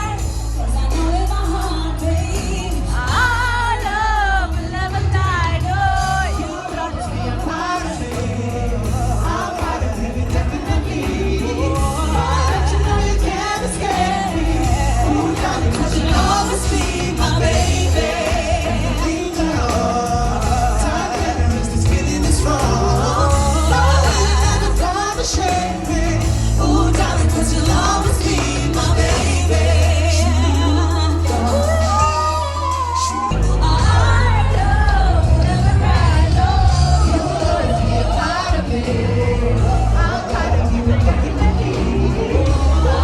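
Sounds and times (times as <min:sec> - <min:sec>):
heavy bass line: 0:00.0 - 0:43.0
pop music with singing: 0:00.0 - 0:43.0.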